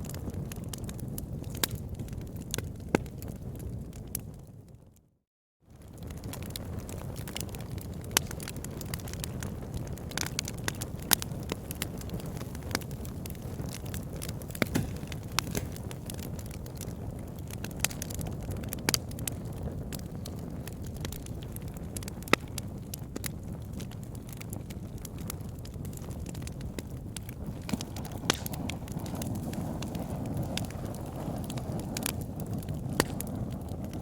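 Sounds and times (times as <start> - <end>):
campfire crackling and popping: 0.0 - 4.9, 5.7 - 34.0
low fire rumble: 0.0 - 5.1, 5.7 - 34.0.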